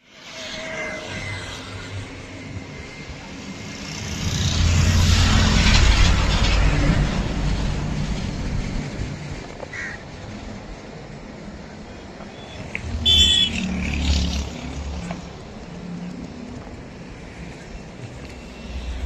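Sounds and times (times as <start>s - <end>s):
train passing with rumble: 0.0s - 19.0s.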